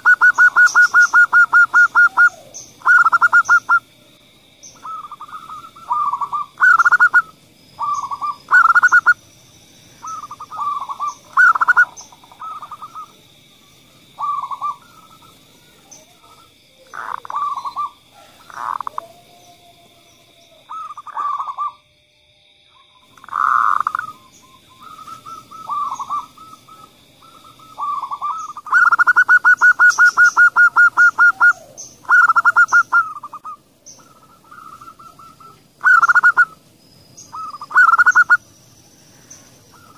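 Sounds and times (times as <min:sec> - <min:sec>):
doves cooing: 0:00.0 - 0:04.0, 0:04.6 - 0:09.2, 0:10.0 - 0:13.3, 0:13.9 - 0:21.8, 0:23.1 - 0:39.9.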